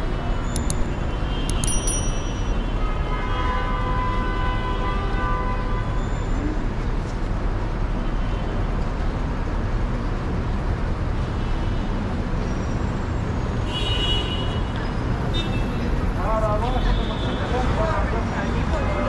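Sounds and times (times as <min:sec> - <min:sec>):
road traffic rumble: 0:00.0 - 0:19.0
street noise: 0:00.0 - 0:19.0.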